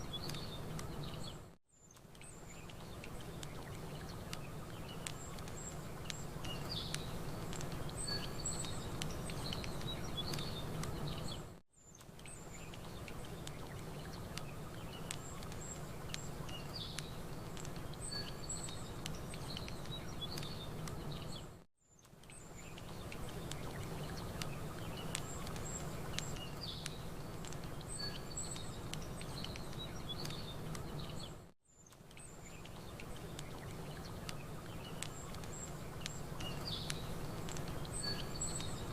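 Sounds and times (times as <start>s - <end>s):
campfire crackling: 0.0s - 38.9s
songbirds chirping: 0.0s - 38.9s.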